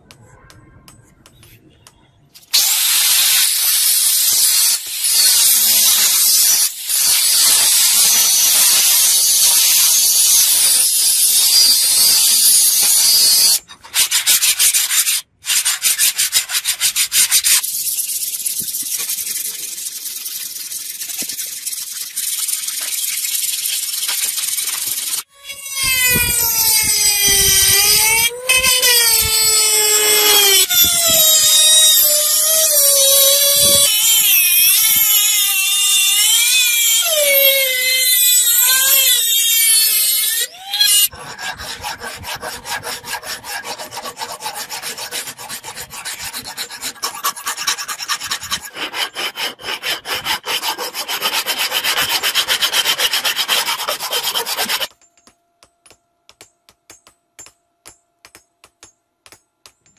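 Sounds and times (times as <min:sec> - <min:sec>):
rotary tool grinding steel: 0:03.6 - 0:54.9
hand file scraping metal: 0:04.2 - 0:54.9.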